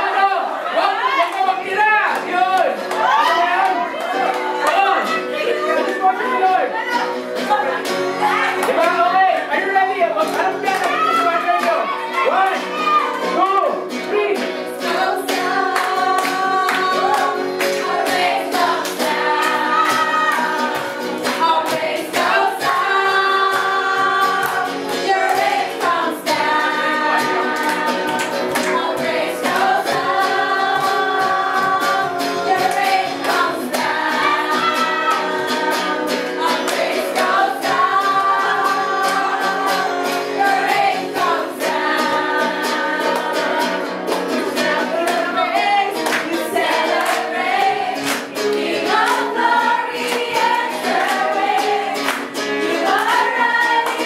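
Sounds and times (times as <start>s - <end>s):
group singing worship music: 0.0s - 54.0s.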